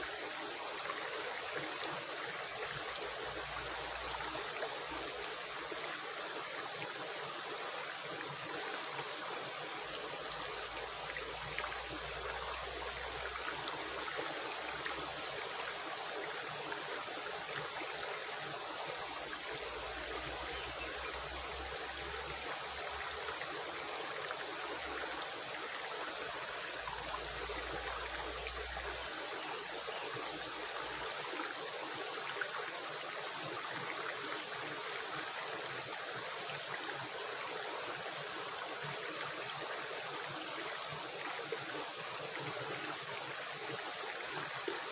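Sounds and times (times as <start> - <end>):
stream water gurgling: 0.0 - 44.9.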